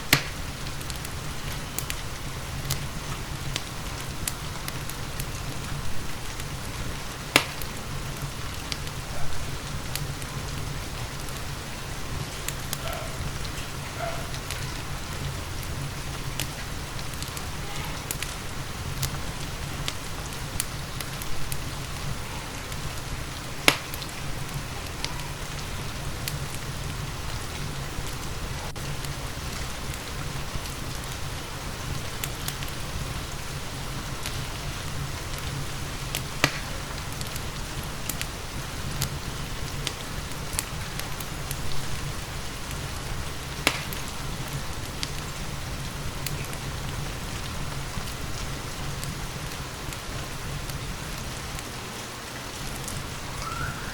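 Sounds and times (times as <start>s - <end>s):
steady rainfall: 0.0s - 53.9s
wood fire crackling and popping: 0.0s - 53.9s.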